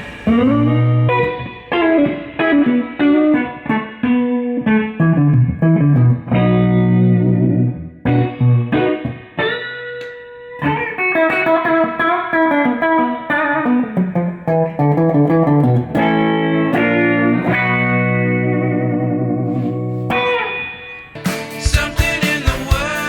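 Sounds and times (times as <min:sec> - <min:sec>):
clean electric guitar playing: 0:00.0 - 0:23.0.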